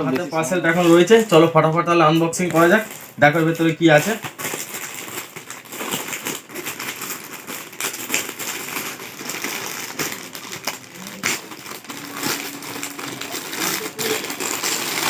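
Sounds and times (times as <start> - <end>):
packaging being torn and crumpled: 2.4 - 15.0.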